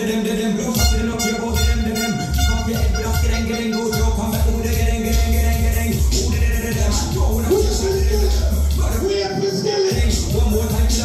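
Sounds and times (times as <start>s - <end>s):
music with heavy bass: 0.0s - 11.0s.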